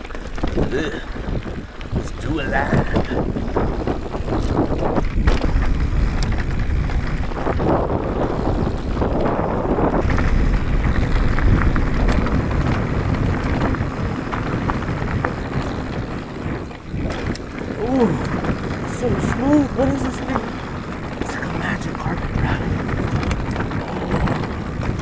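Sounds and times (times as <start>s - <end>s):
bike clicks and rattles: 0.0s - 25.0s
tyres rumbling over dirt trail: 0.0s - 25.0s
wind buffeting microphone: 0.0s - 25.0s.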